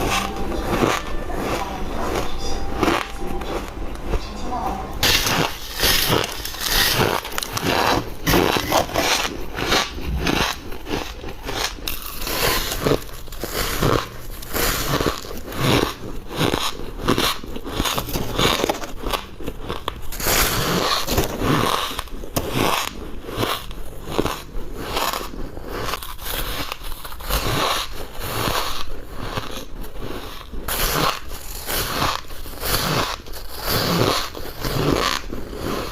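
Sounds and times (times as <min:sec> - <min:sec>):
crunching ice: 0:05.0 - 0:35.9.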